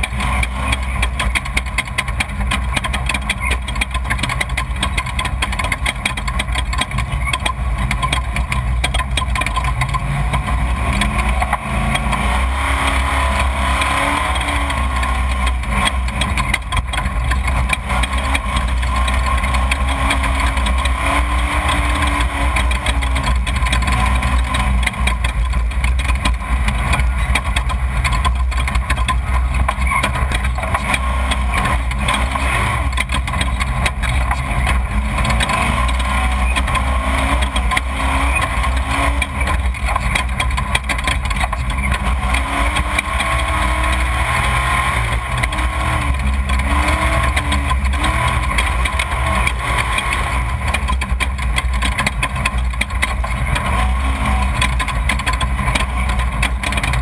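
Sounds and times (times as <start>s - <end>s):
rough vehicle engine running: 0.0s - 57.0s.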